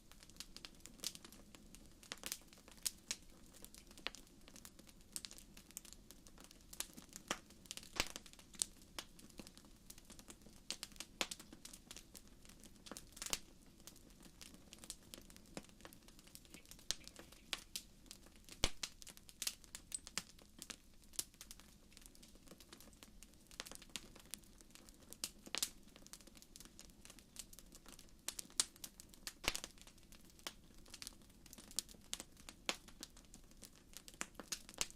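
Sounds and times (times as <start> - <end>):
low hiss of burning: 0.0 - 34.9
fire pops and snaps: 0.1 - 34.9.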